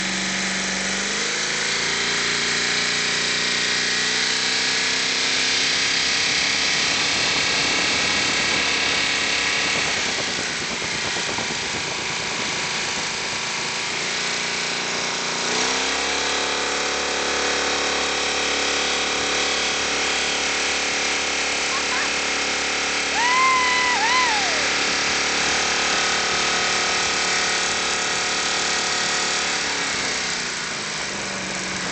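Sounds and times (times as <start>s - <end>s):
boat engine revving: 0.0s - 31.9s.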